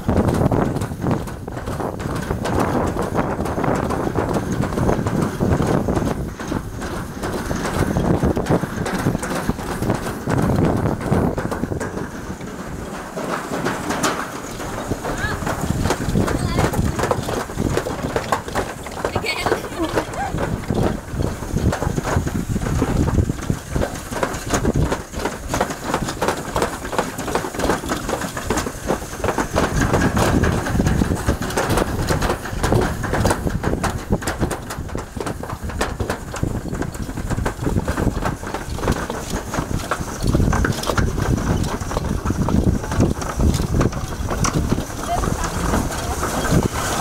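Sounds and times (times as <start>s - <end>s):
sled rattling down metal chute: 0.0s - 47.0s.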